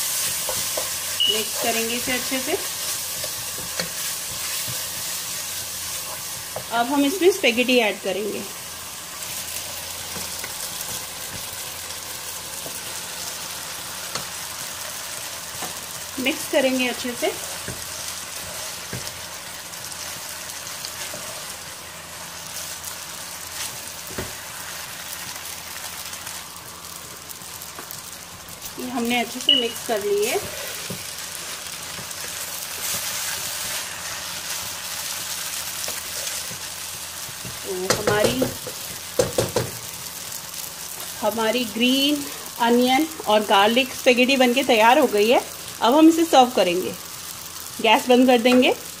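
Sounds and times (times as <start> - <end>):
vegetables sizzling in a pan: 0.0 - 49.0.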